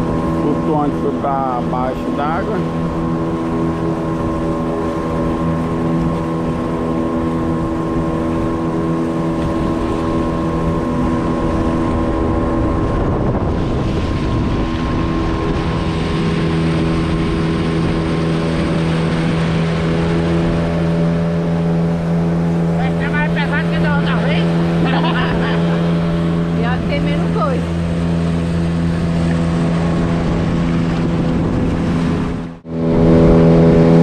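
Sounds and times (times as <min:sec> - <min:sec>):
outboard motor running: 0:00.0 - 0:34.0
water rushing: 0:00.0 - 0:34.0
wind noise: 0:00.0 - 0:34.0.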